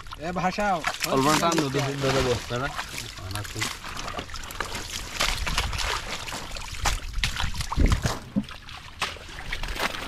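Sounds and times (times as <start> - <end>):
water sloshing and splashing: 0.0 - 10.0.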